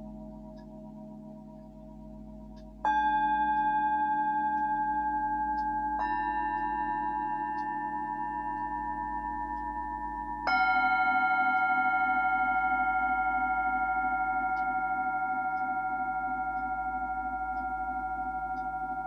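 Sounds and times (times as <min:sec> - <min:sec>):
singing bowls ringing: 0:00.0 - 0:19.0.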